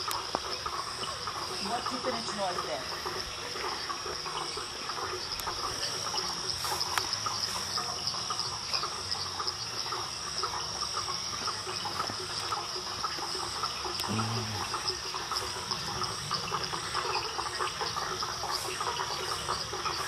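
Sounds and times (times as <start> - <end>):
insect chorus trilling: 0.0 - 20.0.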